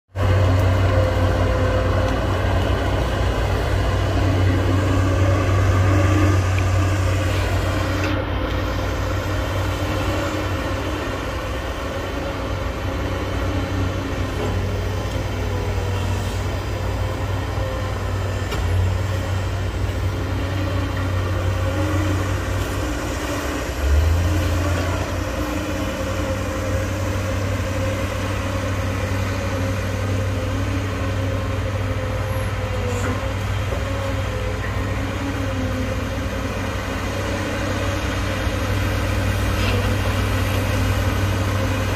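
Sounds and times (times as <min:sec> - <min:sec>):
excavator diesel engine drone: 0:00.1 - 0:41.9.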